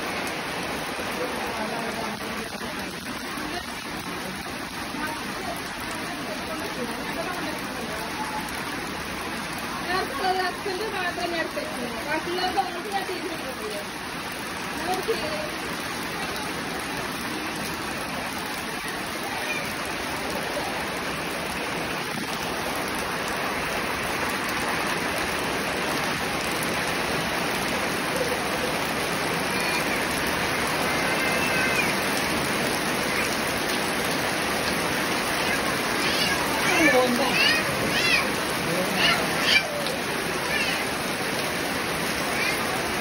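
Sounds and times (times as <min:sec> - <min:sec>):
heavy rain pouring on puddles: 0:00.0 - 0:43.0.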